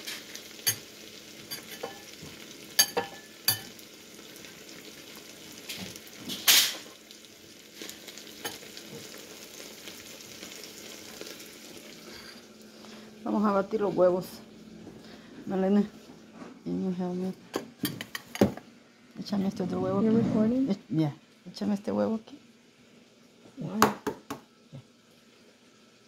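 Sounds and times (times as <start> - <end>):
potatoes frying in oil: 0.0 - 16.0, 20.4 - 26.0.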